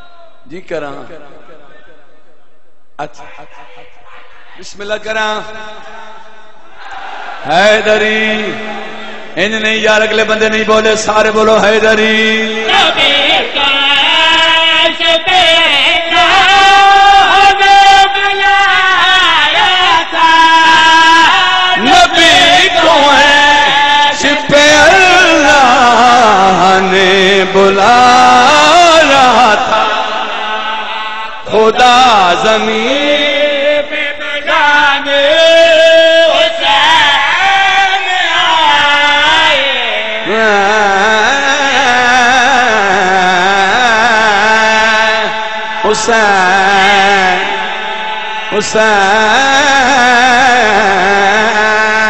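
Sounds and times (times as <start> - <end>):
man chanting through loudspeaker: 0.0 - 6.8, 7.4 - 52.0.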